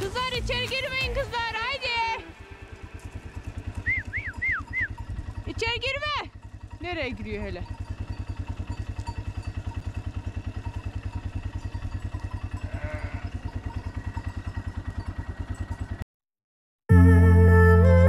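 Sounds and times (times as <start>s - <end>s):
atv engine idling: 0.0s - 16.0s.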